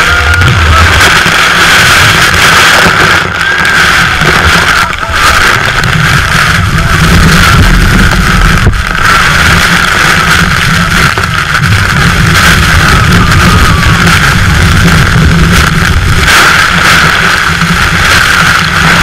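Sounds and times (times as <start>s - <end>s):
roar of falling water: 0.0s - 19.0s
speedboat engines running: 0.0s - 19.0s
wind buffeting microphone: 0.0s - 19.0s.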